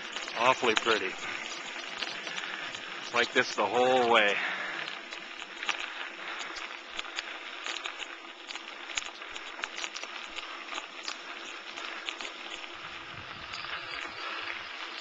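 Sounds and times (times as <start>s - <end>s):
bicycle tyres crunching on trail: 0.0s - 15.0s.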